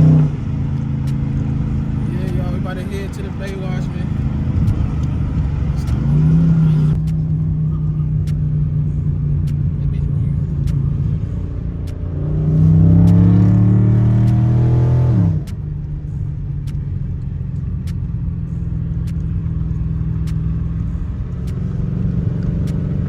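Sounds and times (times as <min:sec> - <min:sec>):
car engine revving and cruising: 0:00.0 - 0:23.0.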